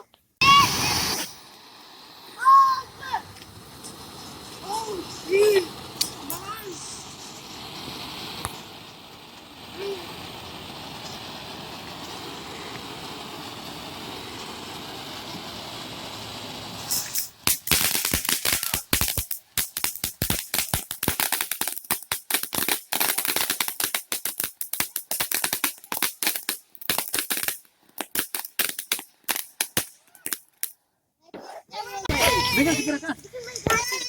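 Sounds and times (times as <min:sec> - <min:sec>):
firecrackers popping: 0:00.4 - 0:30.8, 0:32.1 - 0:34.0.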